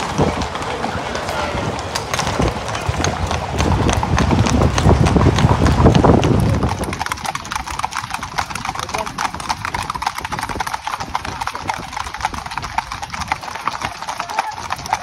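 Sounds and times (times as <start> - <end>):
horse hooves clip-clopping on road: 0.0 - 15.0
low traffic rumble: 0.0 - 15.0.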